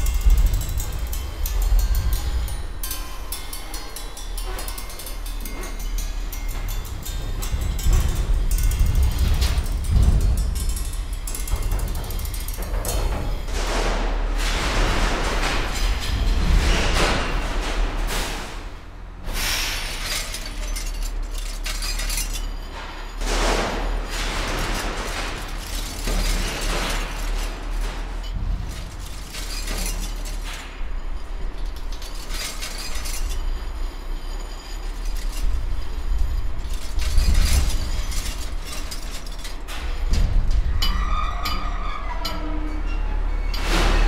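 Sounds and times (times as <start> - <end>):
noisy metallic crashes and scrapes: 0.0 - 44.0.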